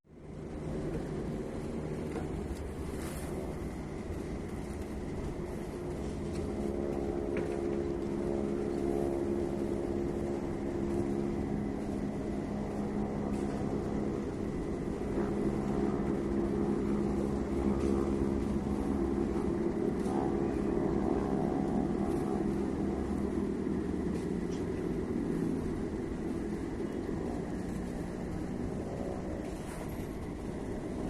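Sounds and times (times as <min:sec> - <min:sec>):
motorboat engine humming: 0:00.1 - 0:31.0.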